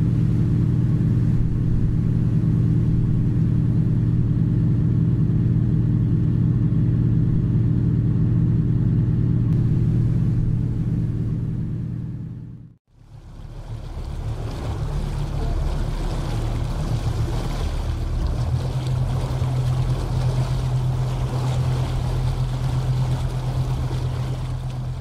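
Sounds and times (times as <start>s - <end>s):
diesel engine hum: 0.0s - 25.0s.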